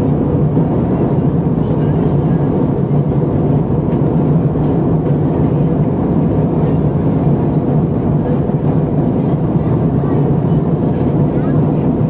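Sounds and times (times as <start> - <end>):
constant low hum: 0.0 - 12.0
jet engine drone: 0.0 - 12.0.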